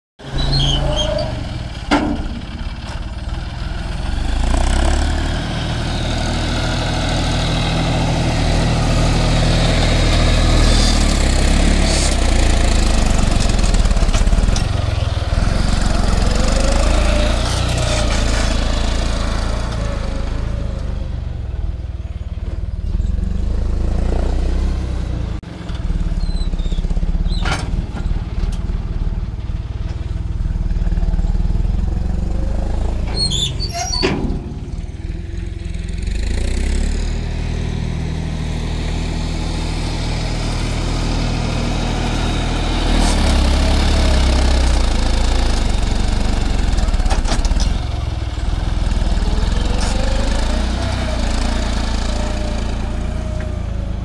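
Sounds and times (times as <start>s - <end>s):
tractor diesel engine under load: 0.2s - 54.0s.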